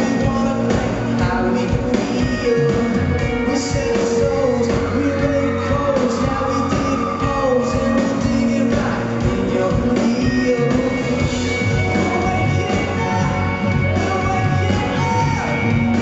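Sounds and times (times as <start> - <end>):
drums: 0.0 - 16.0
electric guitar: 0.0 - 16.0
man singing: 0.0 - 16.0.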